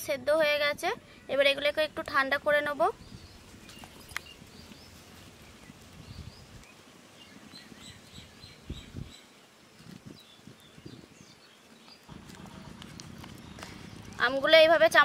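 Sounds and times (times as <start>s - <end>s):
small birds chirping: 0.6s - 15.0s.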